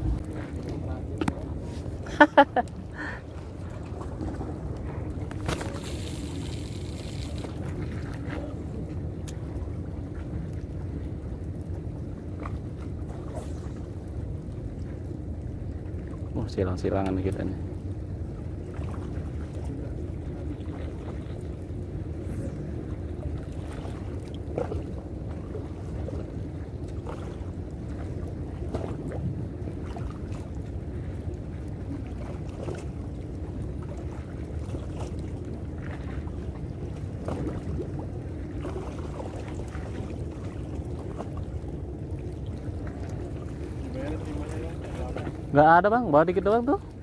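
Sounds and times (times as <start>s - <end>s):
low rumble beside harbour water: 0.0s - 47.0s.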